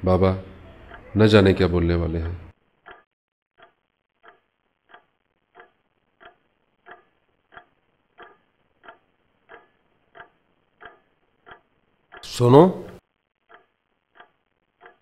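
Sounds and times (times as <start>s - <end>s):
clock ticking: 0.0s - 1.2s, 1.8s - 15.0s.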